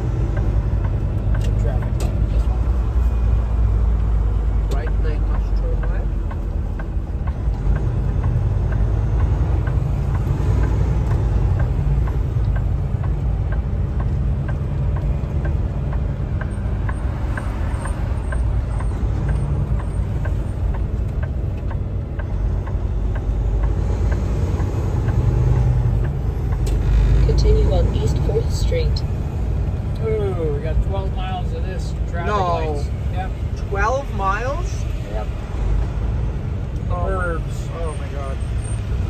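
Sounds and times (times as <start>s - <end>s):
light ticking: 0.0s - 31.8s
truck engine and road drone: 0.0s - 39.0s.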